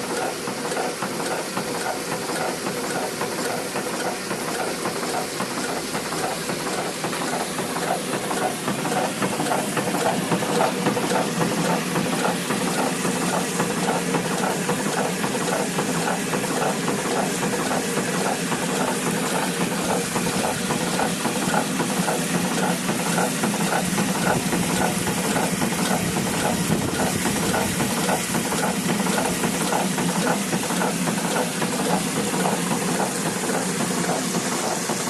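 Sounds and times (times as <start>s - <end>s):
pumping engine clattering: 0.0s - 35.0s.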